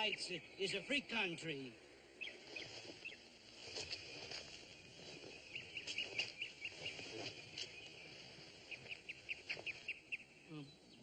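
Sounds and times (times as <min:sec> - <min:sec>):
insects and birds chirping: 0:00.0 - 0:11.0.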